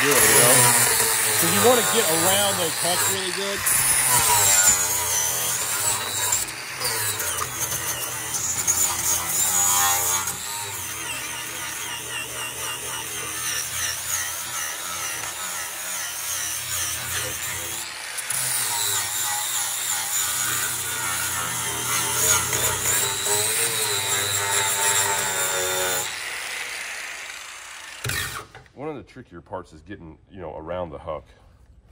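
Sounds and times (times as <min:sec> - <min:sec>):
angle grinder grinding metal: 0:00.0 - 0:28.7.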